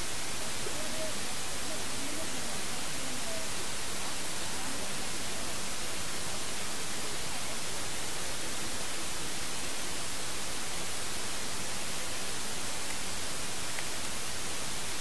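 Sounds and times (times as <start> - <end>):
steady static hiss: 0.0 - 15.0.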